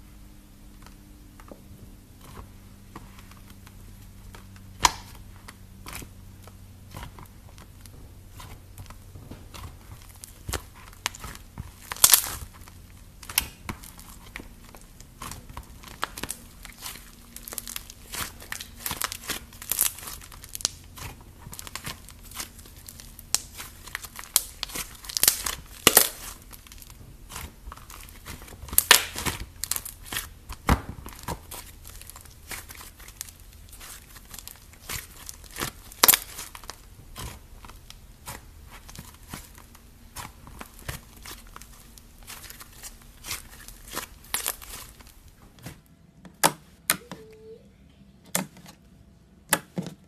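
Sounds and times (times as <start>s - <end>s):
slime crackling and snapping: 2.2s - 45.4s.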